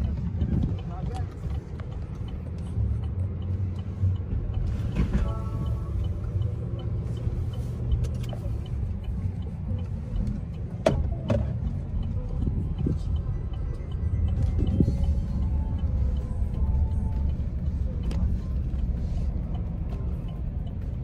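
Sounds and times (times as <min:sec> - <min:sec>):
car engine rumble: 0:00.0 - 0:21.0
road noise inside car: 0:00.0 - 0:21.0.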